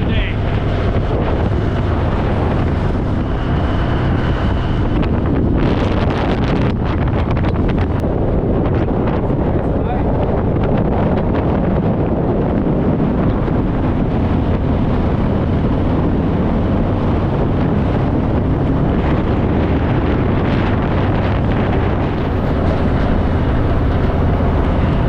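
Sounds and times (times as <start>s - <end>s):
motorcycle engine: 0.0s - 9.5s, 12.6s - 25.0s
road noise: 0.0s - 25.0s
wind rush over microphone: 0.0s - 25.0s.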